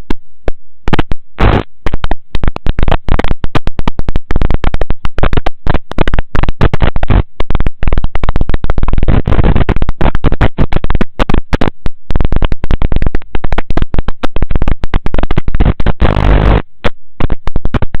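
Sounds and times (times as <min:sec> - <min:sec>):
harsh crackling static: 0:00.0 - 0:18.0.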